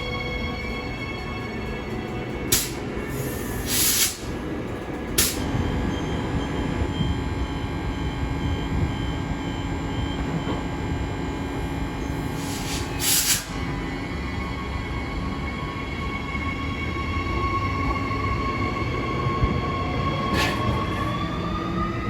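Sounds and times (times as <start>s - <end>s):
electric train rumble and hum: 0.0s - 22.0s.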